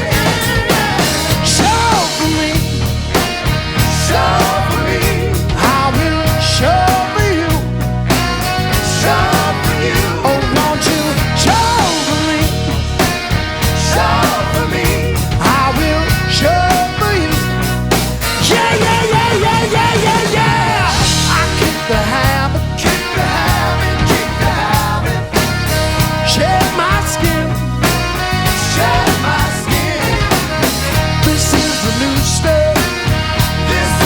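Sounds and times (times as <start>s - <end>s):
drums beating: 0.0s - 34.0s
rock band playing live: 0.0s - 34.0s.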